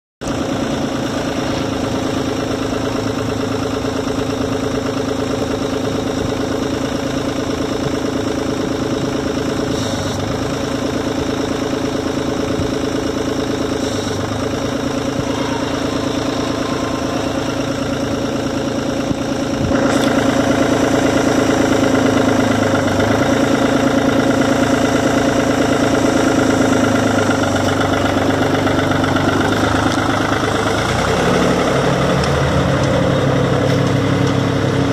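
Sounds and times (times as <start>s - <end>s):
tractor diesel engine idling: 0.2s - 34.9s.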